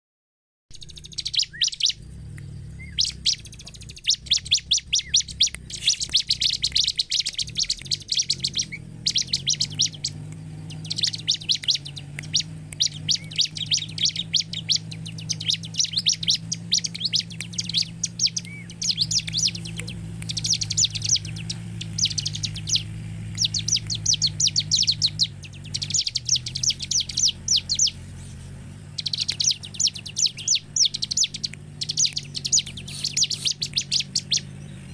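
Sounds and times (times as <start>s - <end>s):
bird chattering trills: 0.7s - 34.9s
faint low hum: 0.7s - 34.9s.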